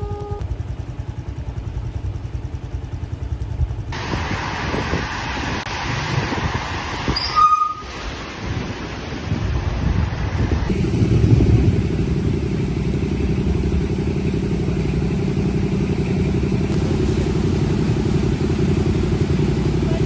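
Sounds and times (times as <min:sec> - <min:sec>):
motorcycles and cars rumbling: 0:00.0 - 0:07.4, 0:08.2 - 0:20.0.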